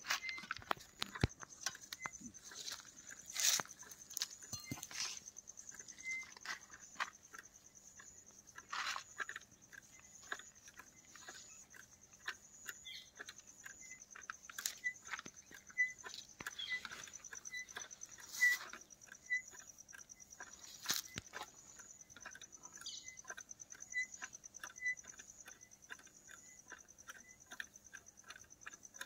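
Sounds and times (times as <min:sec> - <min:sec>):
measuring tape clicking and rubbing: 0:00.0 - 0:29.0.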